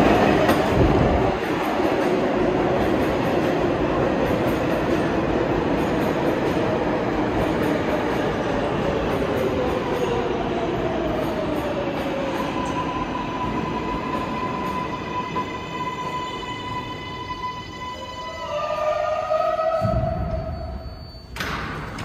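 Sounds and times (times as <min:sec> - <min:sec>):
subway train rumbling and slowing: 0:00.0 - 0:22.0.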